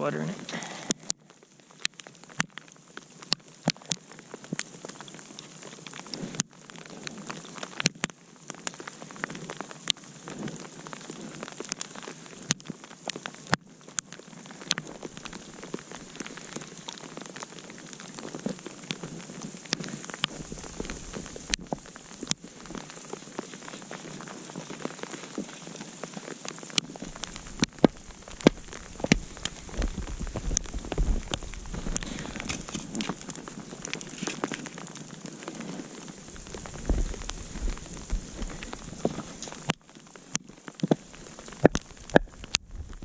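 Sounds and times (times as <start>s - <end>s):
campfire crackling and popping: 0.0s - 43.0s
steady fire hiss: 0.0s - 43.0s.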